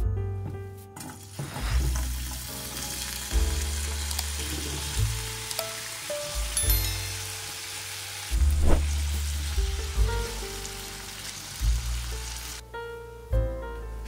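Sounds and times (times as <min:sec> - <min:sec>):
background piano music with bass: 0:00.0 - 0:14.0
potato slices sizzling in oil: 0:01.0 - 0:12.6.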